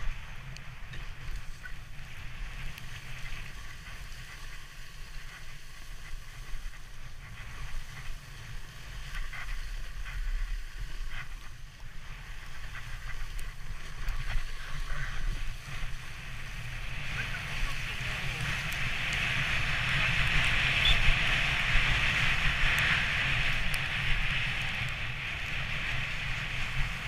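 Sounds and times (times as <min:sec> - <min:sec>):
sledge runners sliding over snow: 0:00.0 - 0:27.0.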